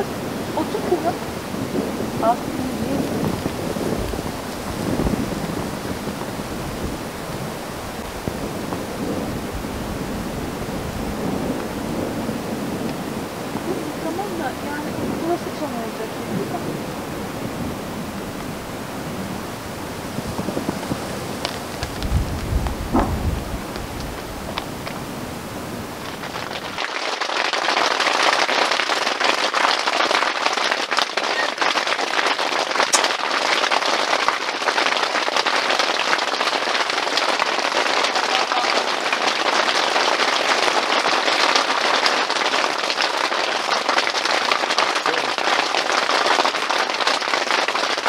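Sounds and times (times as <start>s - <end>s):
heavy rain on tent fabric: 0.0s - 48.0s.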